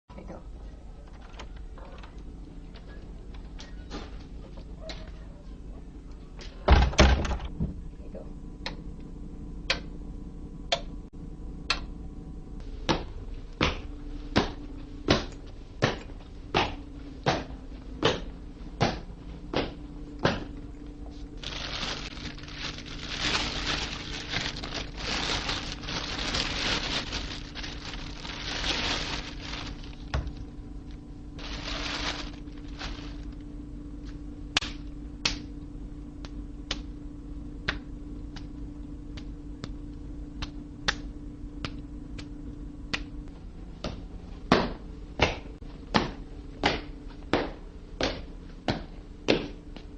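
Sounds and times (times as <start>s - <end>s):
steady low hum: 0.1s - 49.9s.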